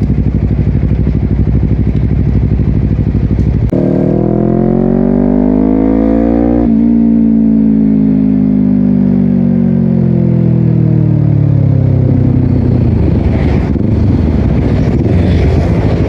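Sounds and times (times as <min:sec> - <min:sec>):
motorcycle accelerating hard: 0:00.0 - 0:16.0.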